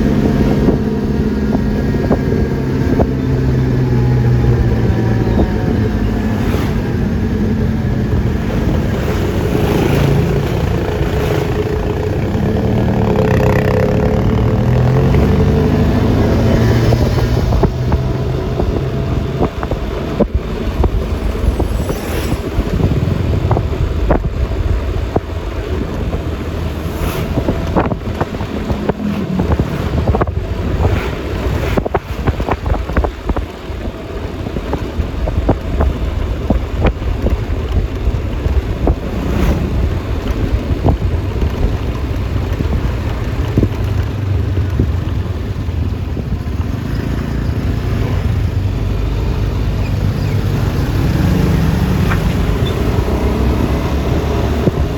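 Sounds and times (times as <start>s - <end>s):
road noise: 0.0s - 54.9s
scooter engine: 0.0s - 54.9s
wind rushing over microphone: 0.0s - 54.9s.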